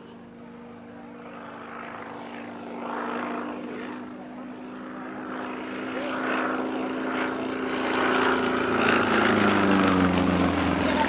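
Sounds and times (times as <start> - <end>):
propeller plane flyby: 0.0 - 11.0.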